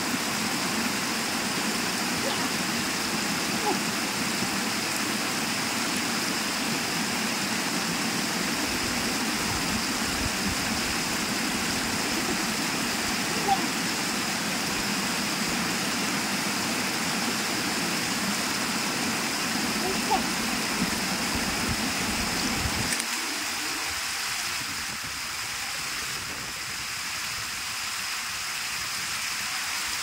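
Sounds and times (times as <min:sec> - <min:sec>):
water rushing down rock: 0:00.0 - 0:30.0.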